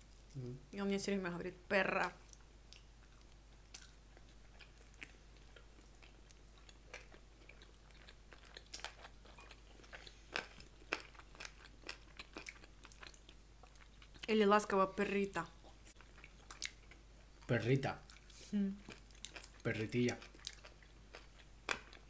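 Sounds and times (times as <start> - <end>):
person chewing and crunching food: 2.2 - 14.3, 15.6 - 22.0.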